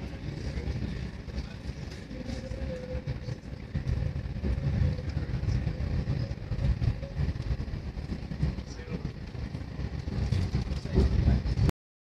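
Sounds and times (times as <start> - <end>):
train wheels rumbling on rail: 0.0 - 11.7.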